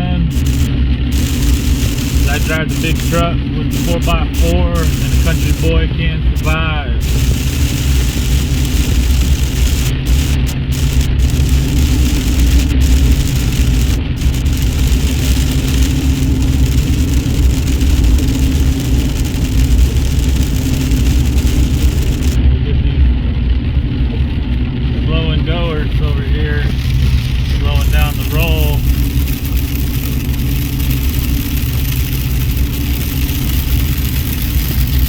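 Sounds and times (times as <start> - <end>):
loud hiss: 0.0 - 22.4, 27.4 - 35.0
engine and road rumble: 0.0 - 35.0.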